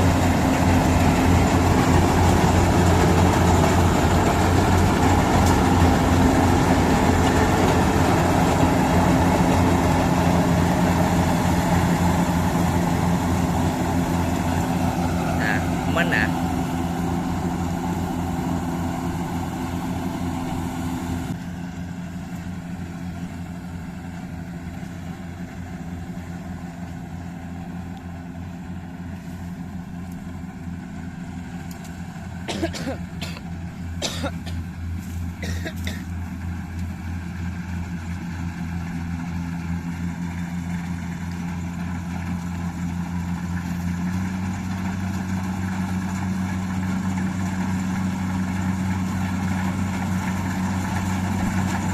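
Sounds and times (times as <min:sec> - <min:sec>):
combine harvester diesel engine drone: 0:00.0 - 0:51.9.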